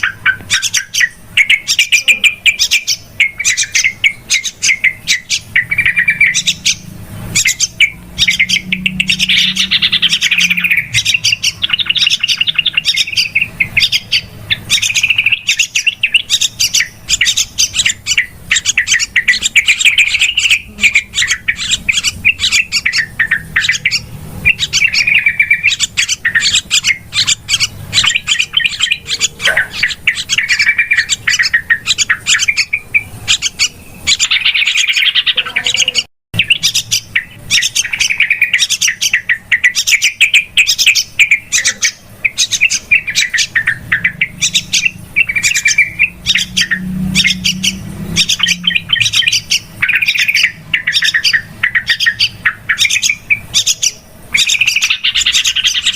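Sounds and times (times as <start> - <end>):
birds chattering and chirping: 0.0 - 55.9.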